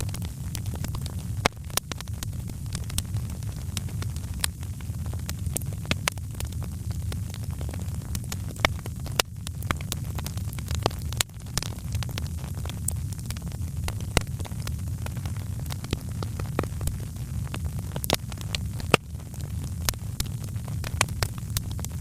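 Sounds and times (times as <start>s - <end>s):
low fire rumble: 0.0s - 22.0s
wood fire crackling and popping: 0.0s - 22.0s.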